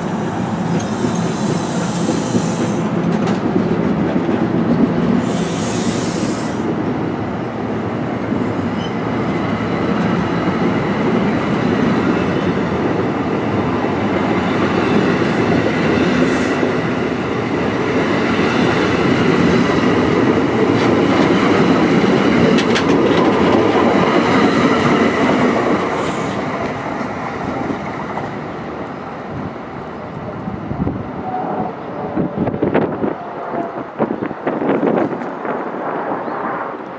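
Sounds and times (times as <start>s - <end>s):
train wheels rumbling on track: 0.0s - 36.9s.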